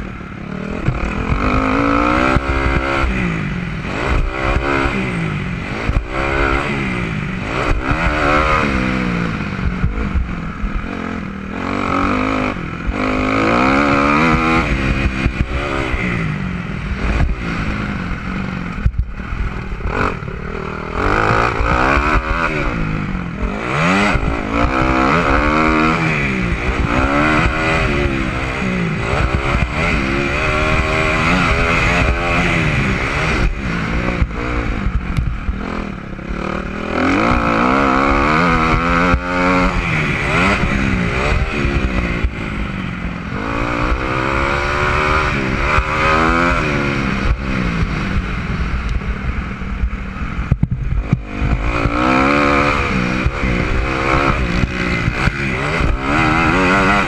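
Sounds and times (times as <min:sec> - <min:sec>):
dirt bike engine revving: 0:00.0 - 0:57.0
wind rushing over microphone: 0:00.0 - 0:57.0.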